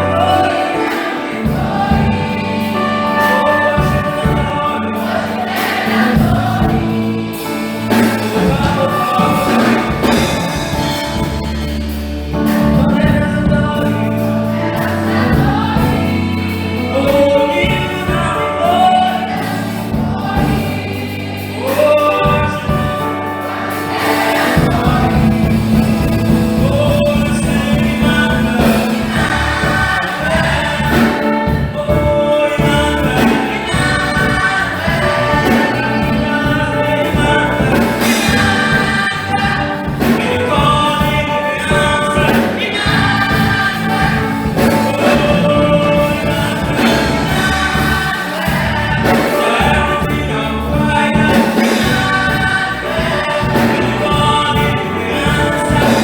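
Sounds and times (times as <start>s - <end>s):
choir singing a gospel carol: 0.0s - 56.0s
instrumental accompaniment: 0.0s - 56.0s.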